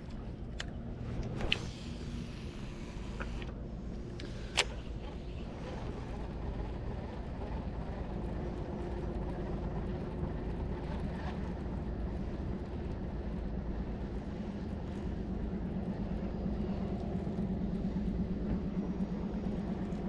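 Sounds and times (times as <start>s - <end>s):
faint steady hum: 0.0s - 20.0s
low motor drone: 0.0s - 20.0s.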